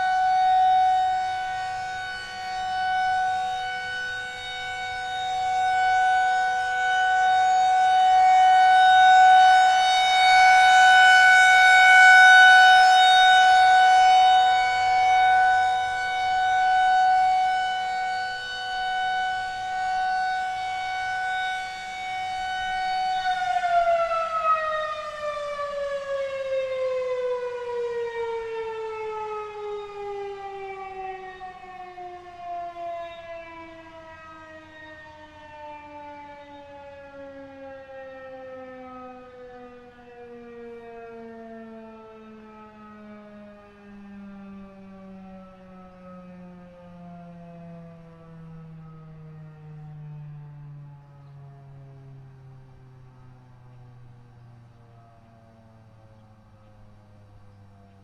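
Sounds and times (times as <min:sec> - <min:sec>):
siren winding down: 0:00.0 - 0:57.1
rotating siren steady alert tone: 0:00.0 - 0:58.0.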